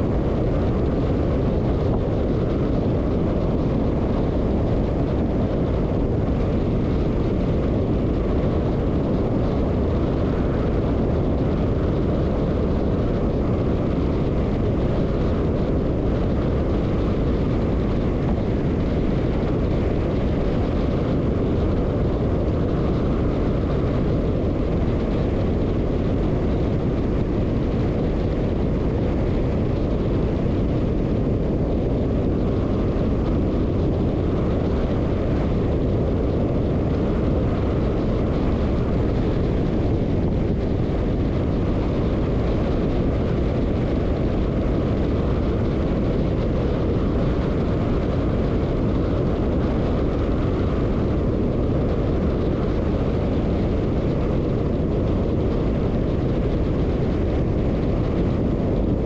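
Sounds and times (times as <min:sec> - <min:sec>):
tyre and wind road rumble: 0:00.0 - 0:59.0.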